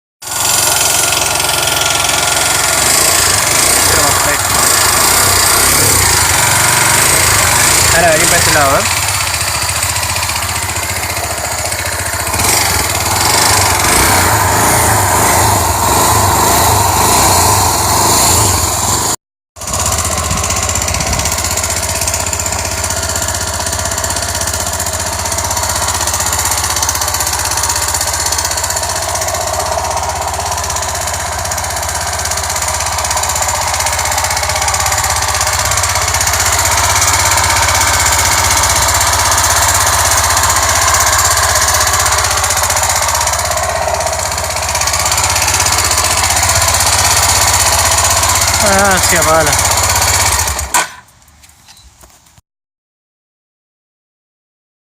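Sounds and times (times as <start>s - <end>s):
engine running with rattling knock: 0.2s - 51.4s.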